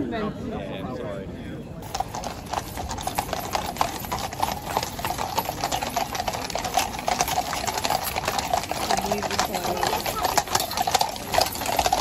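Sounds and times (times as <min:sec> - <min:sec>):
horse hooves clip-clopping on road: 0:01.8 - 0:12.0.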